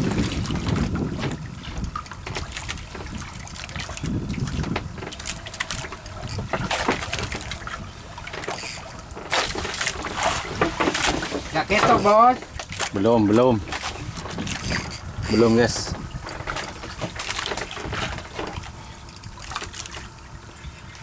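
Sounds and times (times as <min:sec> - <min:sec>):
water slapping against boat: 0:00.0 - 0:21.0
wind buffeting microphone: 0:00.0 - 0:21.0.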